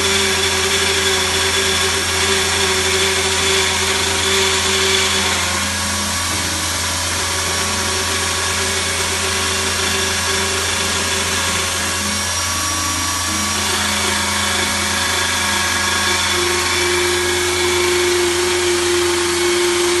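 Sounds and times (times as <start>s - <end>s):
cutting tool whining: 0.0s - 20.0s
lathe humming: 0.0s - 20.0s.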